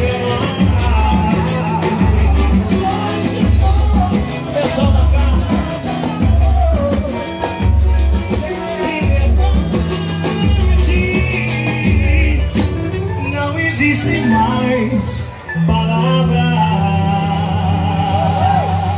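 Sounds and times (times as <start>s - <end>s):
acoustic guitar: 0.0s - 18.9s
deep bass beat: 0.0s - 18.9s
man singing: 0.0s - 18.9s.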